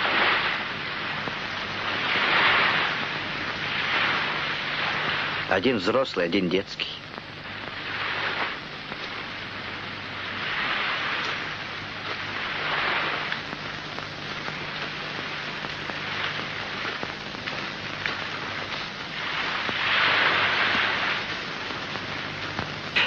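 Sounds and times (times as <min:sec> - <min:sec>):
surf washing onto beach: 0:00.0 - 0:23.0.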